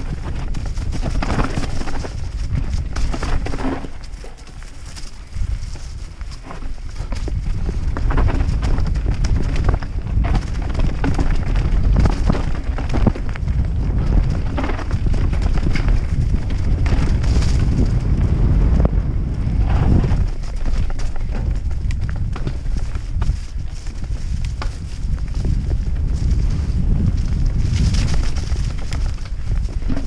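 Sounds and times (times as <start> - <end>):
bike knocks and rattles: 0.0 - 30.0
bike tyres rumbling over stones: 0.0 - 30.0
wind buffeting microphone: 0.0 - 30.0.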